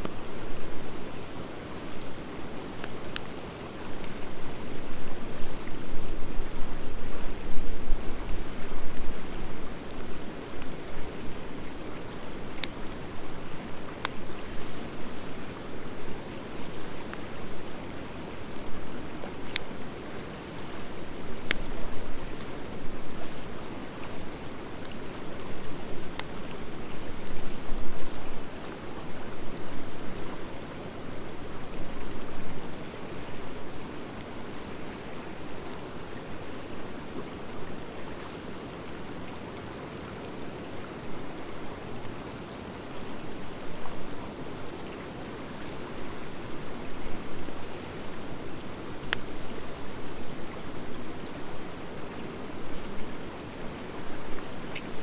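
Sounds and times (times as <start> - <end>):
wood fire hissing and crackling: 0.0 - 55.0.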